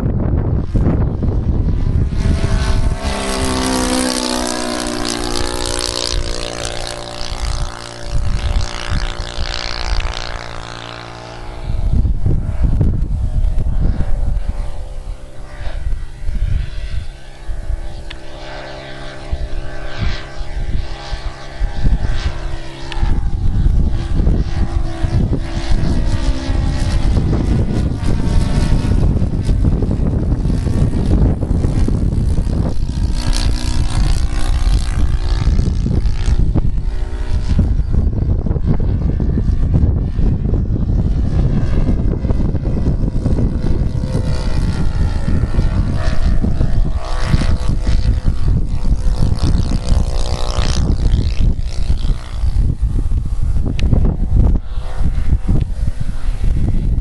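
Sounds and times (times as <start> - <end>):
model plane engine drone: 0.0 - 57.0.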